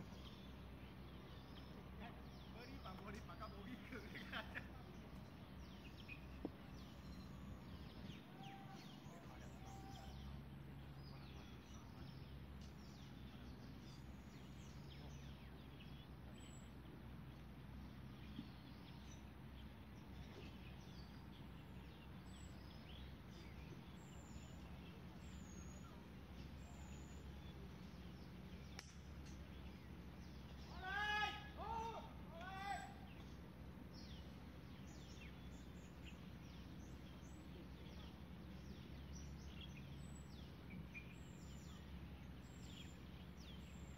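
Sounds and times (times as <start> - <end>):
low steady rumble: 0.0 - 43.9
small birds chirping: 0.0 - 43.9.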